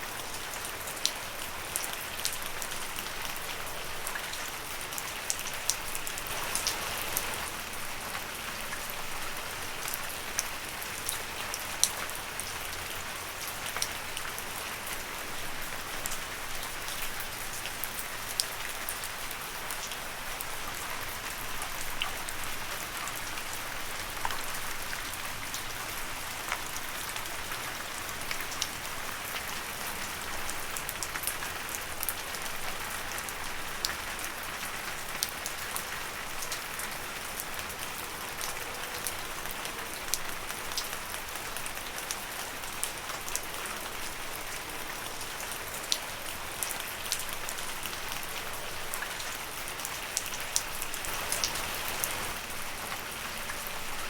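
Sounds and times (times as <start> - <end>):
raindrops pattering on leaves: 0.0 - 54.0
steady rain hiss: 0.0 - 54.0.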